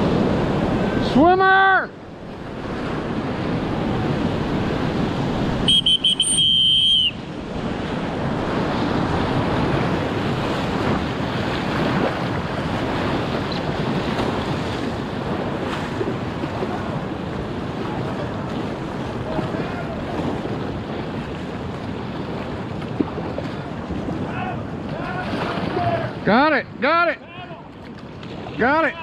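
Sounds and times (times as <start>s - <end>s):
whitewater rushing: 0.0s - 29.0s.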